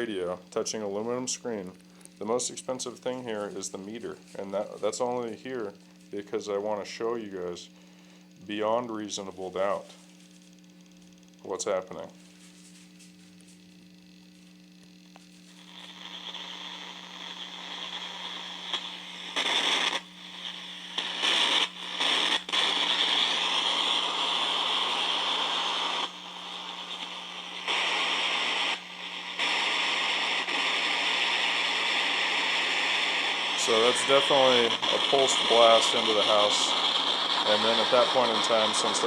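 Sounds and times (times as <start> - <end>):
radio static: 0.0 - 7.8, 8.5 - 10.0, 11.4 - 12.2, 15.6 - 39.0
steady low hum: 0.0 - 39.0.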